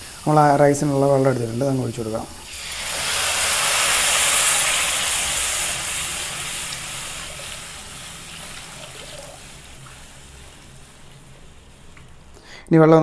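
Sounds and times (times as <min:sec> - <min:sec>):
water hissing in hot pan: 0:00.0 - 0:12.4.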